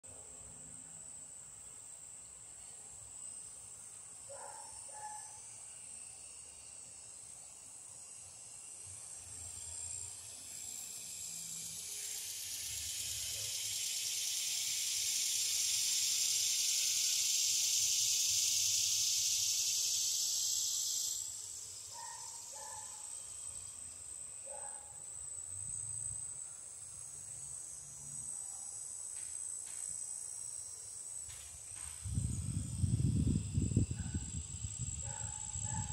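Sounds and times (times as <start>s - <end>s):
cicadas droning: 0.1s - 35.9s
loud cicada buzzing call: 0.1s - 35.9s.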